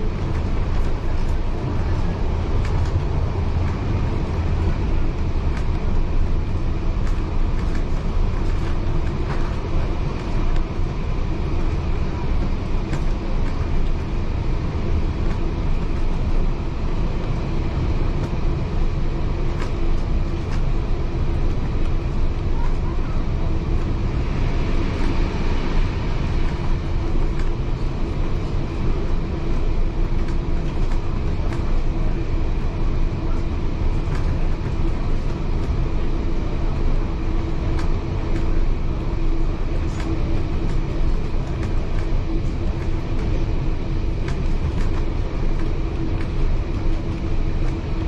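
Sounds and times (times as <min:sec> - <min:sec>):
railway carriage rumbling: 0:00.0 - 0:48.0.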